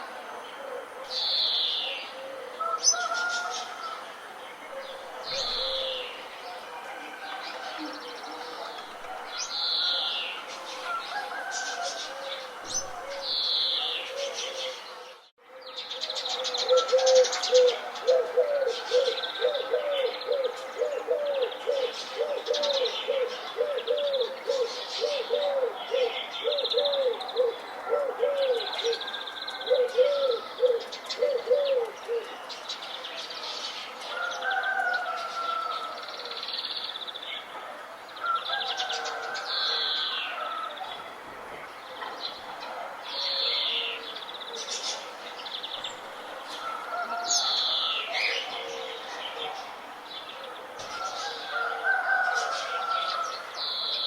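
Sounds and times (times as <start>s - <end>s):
birds chirping and trilling: 0.4s - 37.5s, 38.1s - 54.0s.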